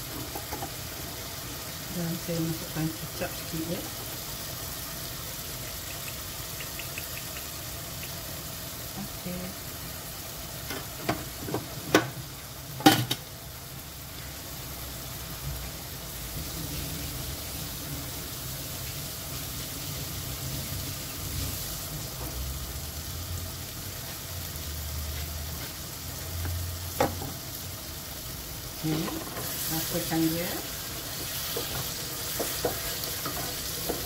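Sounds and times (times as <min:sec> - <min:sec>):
sauce sizzling in a pot: 0:00.0 - 0:34.0.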